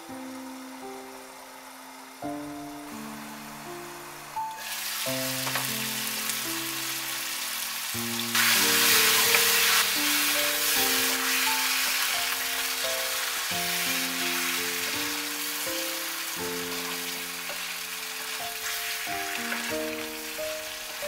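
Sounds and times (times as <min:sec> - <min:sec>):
slow background music: 0:00.0 - 0:21.0
curry sizzling in pot: 0:02.7 - 0:21.0.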